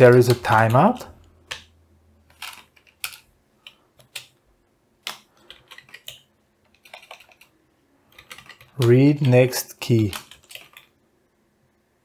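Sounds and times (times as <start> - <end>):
typing on computer keyboard: 0.0 - 4.4, 5.0 - 11.0.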